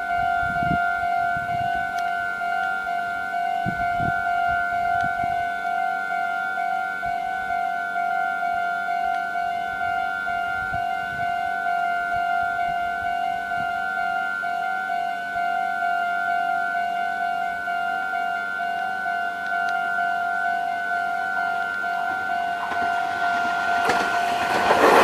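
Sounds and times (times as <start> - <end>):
level crossing warning bell: 0.0 - 25.0.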